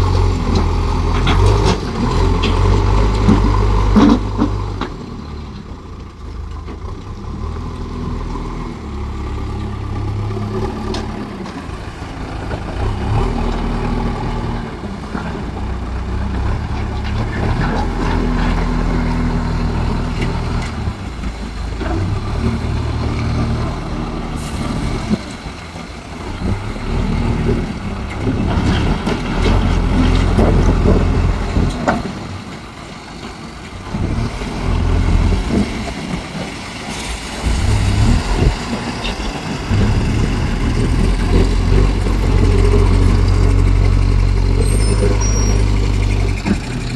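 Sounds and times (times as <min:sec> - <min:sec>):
diesel engine revving: 0:00.0 - 0:05.6, 0:06.8 - 0:32.3, 0:33.8 - 0:46.9.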